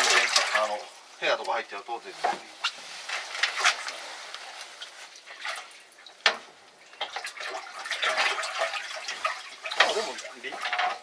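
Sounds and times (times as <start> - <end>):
water running and splashing: 0.0 - 11.0.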